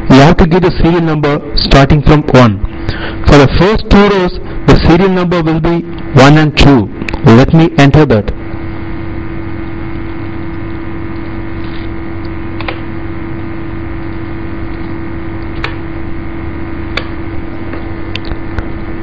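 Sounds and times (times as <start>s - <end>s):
electrical mains hum and hiss: 0.0s - 19.0s.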